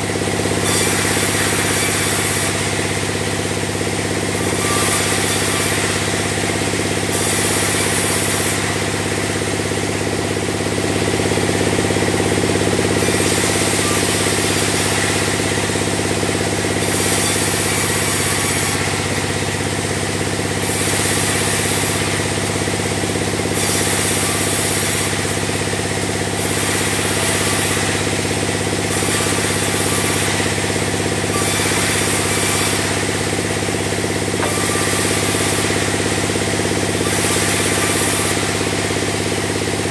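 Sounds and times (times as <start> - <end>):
band saw machine hum: 0.0 - 39.9
saw blade hissing through timber: 0.0 - 39.9.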